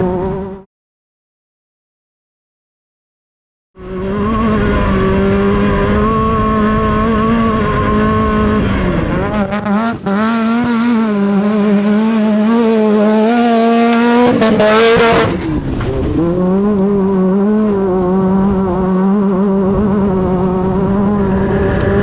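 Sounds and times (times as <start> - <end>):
buggy engine at high revs: 0.0 - 0.7, 3.8 - 22.0.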